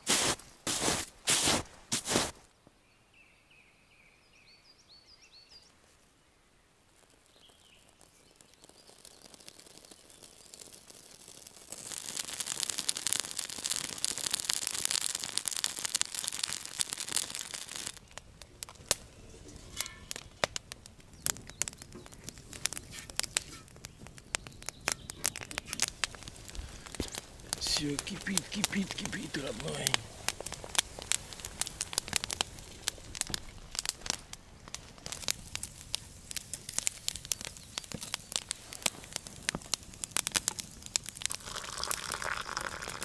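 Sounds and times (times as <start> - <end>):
campfire hissing: 0.0 - 2.4, 5.8 - 43.0
burning wood crackling and popping: 0.0 - 2.6, 5.6 - 43.0.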